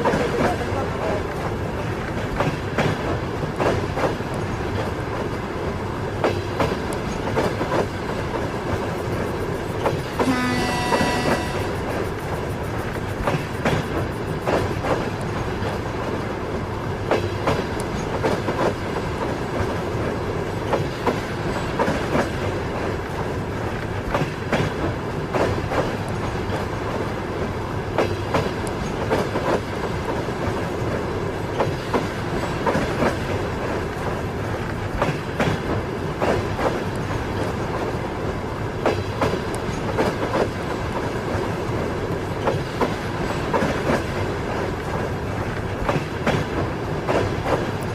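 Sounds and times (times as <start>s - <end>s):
moving train rumble: 0.0s - 47.9s.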